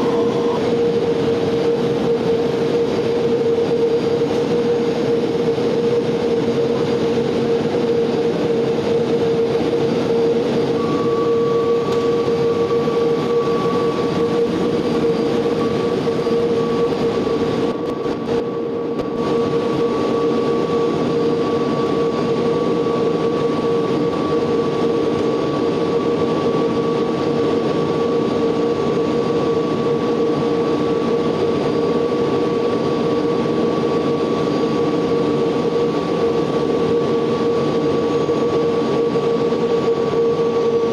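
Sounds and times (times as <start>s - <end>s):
gas turbine train whine: 0.0s - 40.9s
higher turbine tone: 0.0s - 40.9s.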